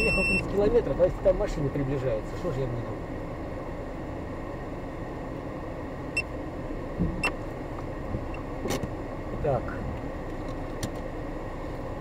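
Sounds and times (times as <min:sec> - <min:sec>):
low hum of engine and tyres: 0:00.0 - 0:12.0.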